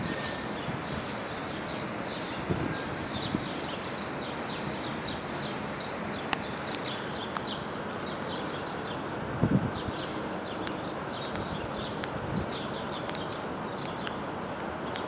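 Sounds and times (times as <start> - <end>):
outdoor background hiss: 0.0 - 15.0
small birds chirping: 0.0 - 15.0.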